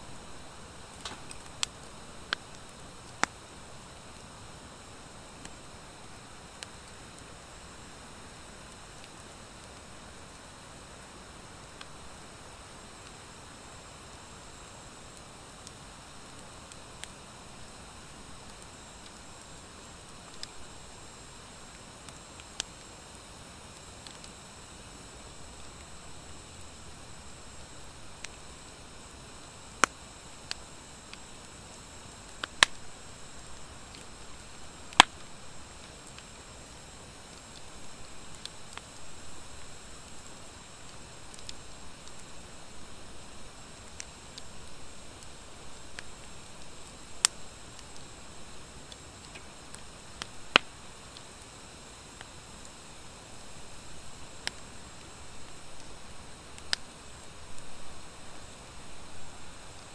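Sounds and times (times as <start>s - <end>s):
campfire crackling and popping: 0.0s - 14.4s, 15.0s - 59.9s.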